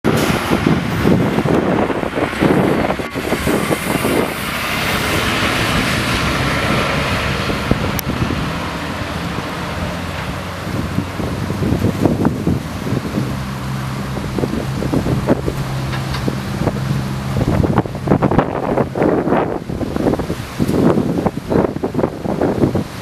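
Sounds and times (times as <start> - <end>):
truck passing: 0.0 - 23.0
wind buffeting microphone: 0.0 - 23.0.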